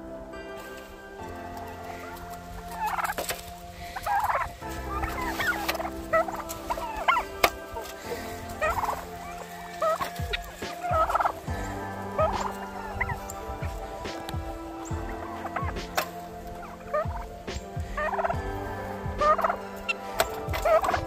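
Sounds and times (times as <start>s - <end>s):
turkey gobbling: 1.5s - 21.0s.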